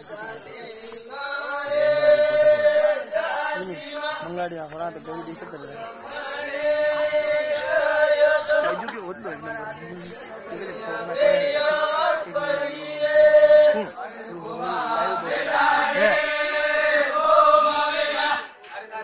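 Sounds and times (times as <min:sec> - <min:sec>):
jingling percussion: 0:00.0 - 0:19.0
voices chanting a song: 0:00.0 - 0:19.0.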